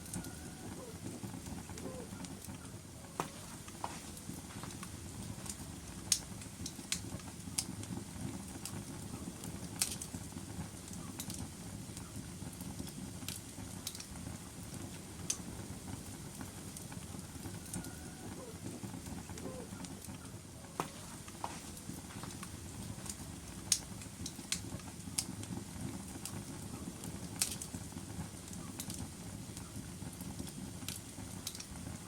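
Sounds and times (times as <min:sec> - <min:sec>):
low rumble of flames: 0:00.0 - 0:32.0
wood popping and crackling: 0:00.0 - 0:32.0.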